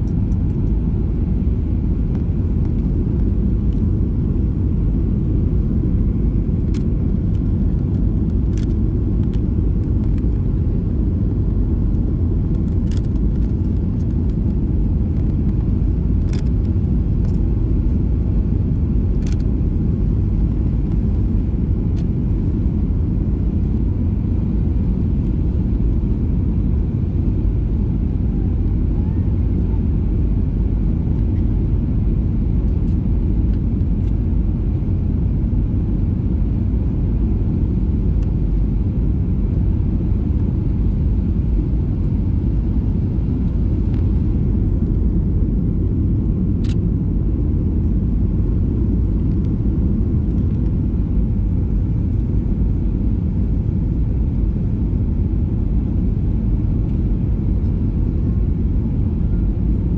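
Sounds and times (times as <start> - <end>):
aircraft cabin engine rumble: 0.0 - 59.9
faint steady hum: 0.0 - 59.9.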